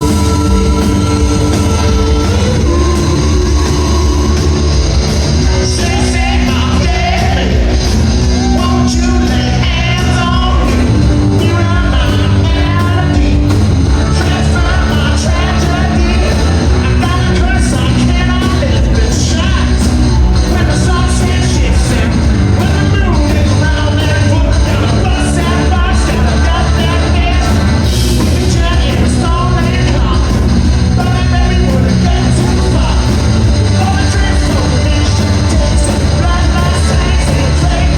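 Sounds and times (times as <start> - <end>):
live rock band playing: 0.0 - 37.9
sung vocals: 0.0 - 37.9.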